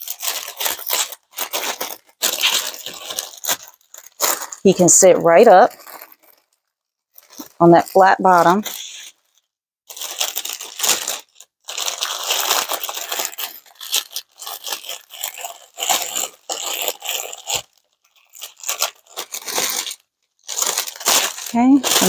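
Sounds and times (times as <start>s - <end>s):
cellophane bag crinkling: 0.0s - 22.0s.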